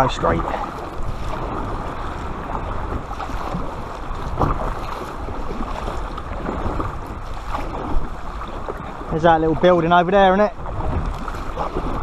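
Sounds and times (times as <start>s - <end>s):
paddle strokes in water: 0.0s - 12.0s
water washing along hull: 0.0s - 12.0s
wind on microphone: 0.0s - 12.0s.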